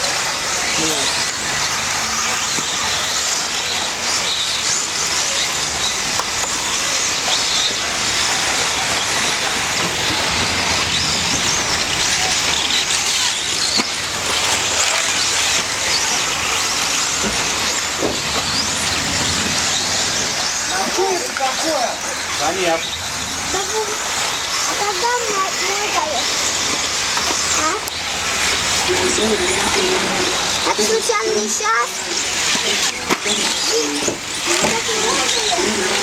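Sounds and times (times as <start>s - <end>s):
electric motor whines: 0.0s - 36.0s
tyre and track noise: 0.0s - 36.0s.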